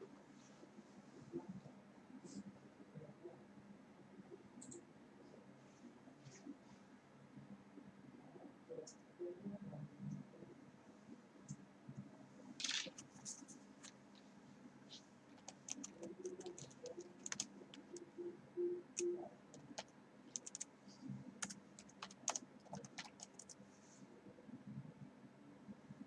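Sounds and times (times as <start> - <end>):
low steady hum: 0.0 - 26.0
faint clicking and tapping: 4.0 - 26.0.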